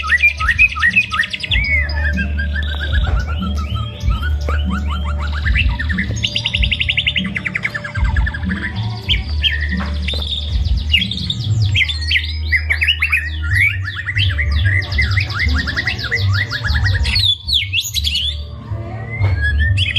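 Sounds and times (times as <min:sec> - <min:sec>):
bird singing trills and whistles: 0:00.0 - 0:19.9.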